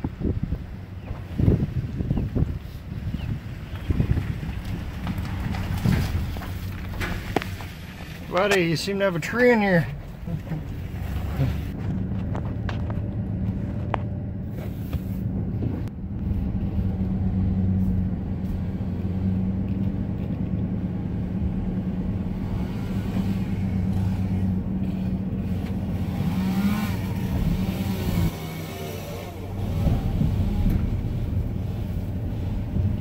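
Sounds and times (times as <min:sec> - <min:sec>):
road noise: 0:00.0 - 0:33.0
van engine hum: 0:00.0 - 0:33.0.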